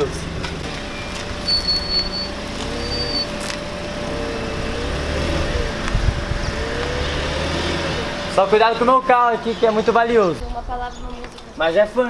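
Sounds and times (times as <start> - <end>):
car engine low rumble: 0.0 - 10.9.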